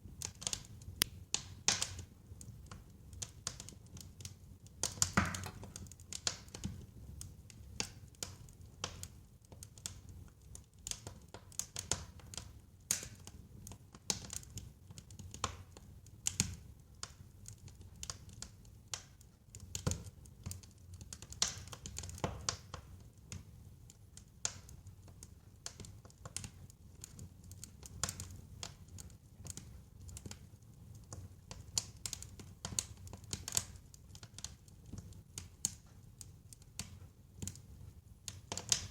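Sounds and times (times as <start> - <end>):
logs crackling and popping: 0.1 - 38.9.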